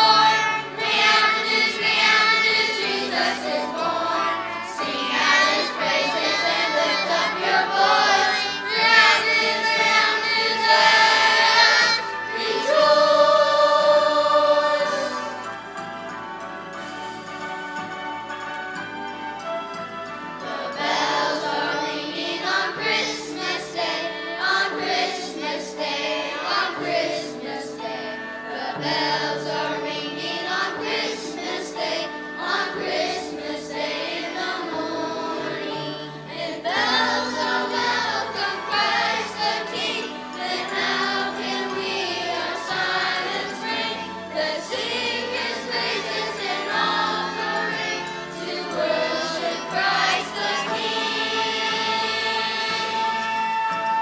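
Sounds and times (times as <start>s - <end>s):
choir singing: 0.0s - 15.8s, 20.4s - 54.0s
instrumental accompaniment: 0.0s - 54.0s.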